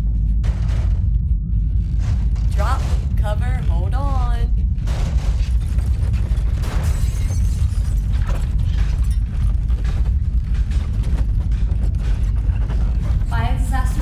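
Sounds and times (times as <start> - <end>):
deep steady rumble: 0.0 - 14.0
rattling and creaking: 0.0 - 14.0.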